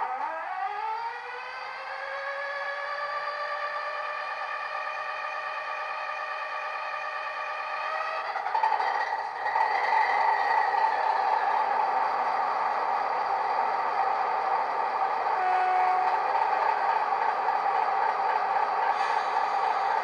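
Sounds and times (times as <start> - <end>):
model train engine sound: 1.1 - 20.0.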